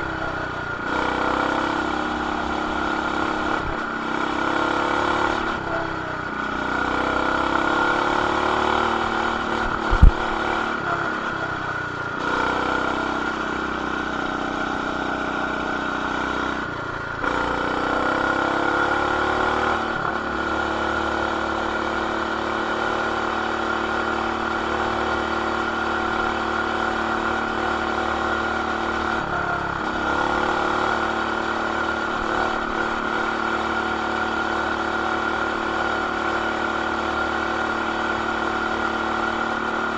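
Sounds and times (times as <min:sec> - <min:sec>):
muffled mini bike engine revving: 0:00.0 - 0:39.9.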